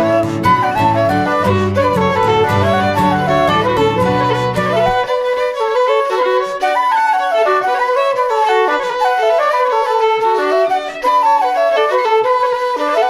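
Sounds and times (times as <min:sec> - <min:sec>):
fiddle playing fast dance tune: 0:00.0 - 0:13.0
flute: 0:00.0 - 0:13.0.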